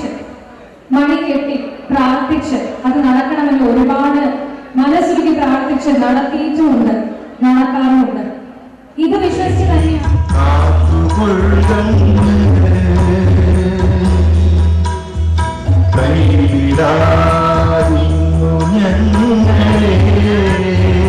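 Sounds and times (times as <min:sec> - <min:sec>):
devotional song over loudspeakers: 0:00.0 - 0:21.0.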